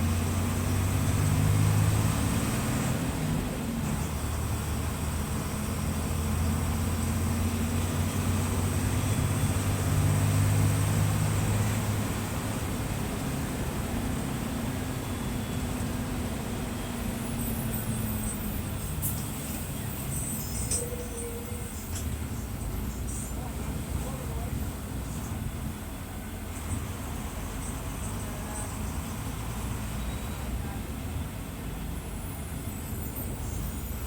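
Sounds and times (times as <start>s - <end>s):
bus diesel engine droning: 0.0s - 34.0s.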